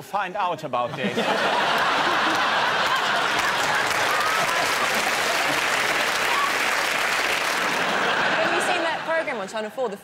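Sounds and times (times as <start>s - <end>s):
audience applauding: 1.2s - 9.5s.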